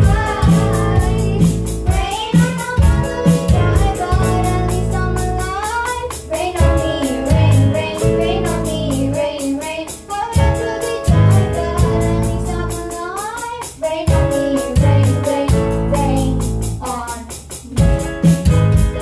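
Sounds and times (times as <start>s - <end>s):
electric bass: 0.0s - 9.3s, 10.4s - 13.0s, 14.1s - 19.0s
girls singing in unison: 0.0s - 15.6s
electronic drums beat: 0.0s - 19.0s.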